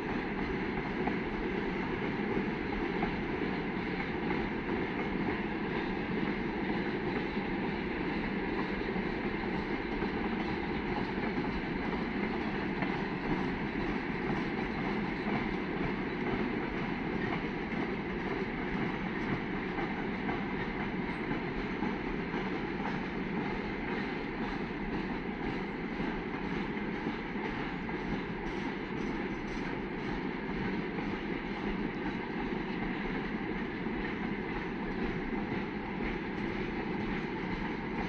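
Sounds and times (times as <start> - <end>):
train wheels on track: 0.0 - 38.0.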